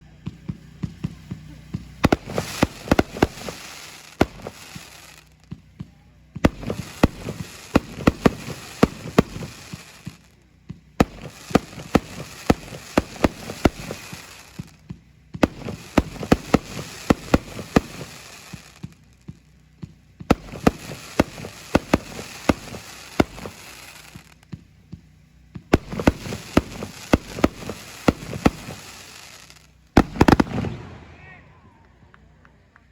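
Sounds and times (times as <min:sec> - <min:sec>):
firework shots and bursts: 0:00.0 - 0:32.8
firework hiss: 0:00.1 - 0:31.2.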